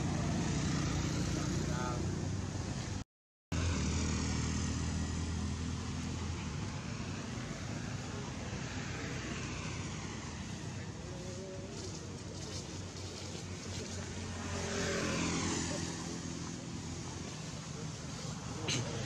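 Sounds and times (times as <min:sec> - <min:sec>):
outdoor background noise: 0:00.0 - 0:19.0
vehicle engine running: 0:03.5 - 0:19.0.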